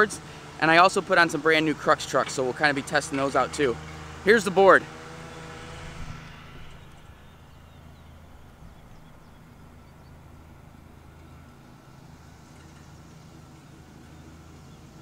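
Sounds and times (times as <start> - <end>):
faint engine drone: 0.0 - 15.0.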